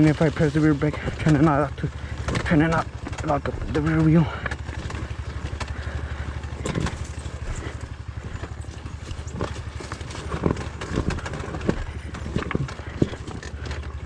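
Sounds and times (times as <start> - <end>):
motorcycle engine at low revs: 0.0 - 14.0
tyres and chassis knocking: 0.0 - 14.0.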